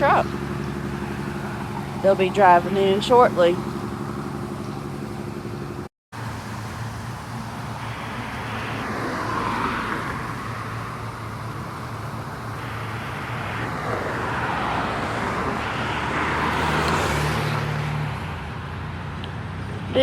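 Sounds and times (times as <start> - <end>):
low engine hum: 0.0 - 20.0
vehicles passing: 0.0 - 20.0.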